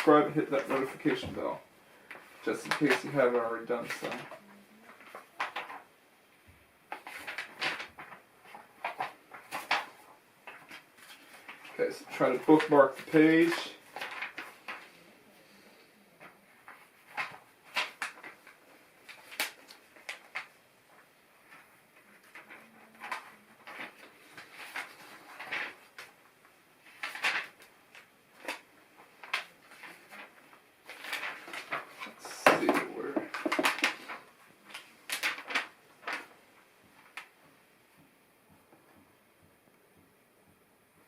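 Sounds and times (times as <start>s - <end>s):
paper booklet rustling: 0.0s - 5.9s, 6.9s - 38.1s.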